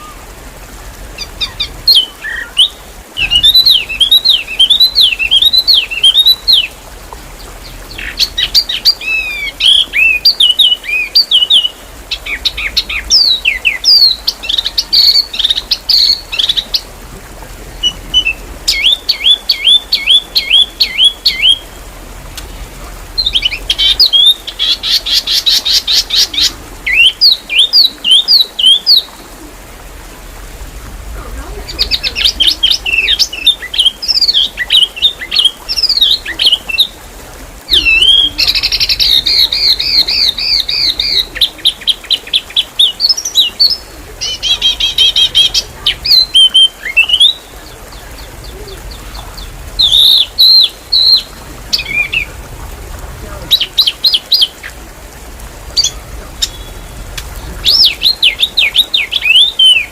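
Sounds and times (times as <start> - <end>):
songbird chirps trills and whistles: 1.2 - 6.8, 7.4 - 16.9, 17.7 - 21.8, 22.4 - 29.5, 31.6 - 37.1, 37.7 - 52.4, 55.7 - 59.9.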